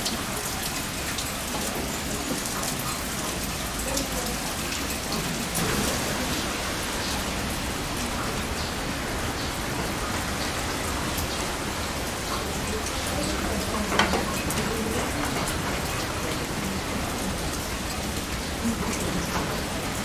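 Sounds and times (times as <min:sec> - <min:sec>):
heavy rain falling: 0:00.0 - 0:20.0
raindrops ticking: 0:00.0 - 0:20.0.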